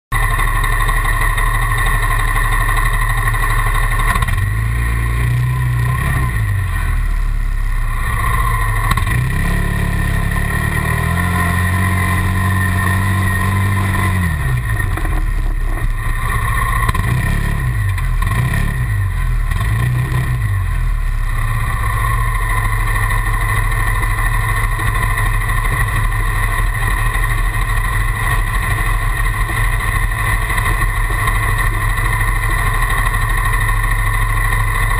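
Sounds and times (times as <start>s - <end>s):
quad engine revving: 0.1s - 34.9s
steady engine drone: 0.1s - 34.9s.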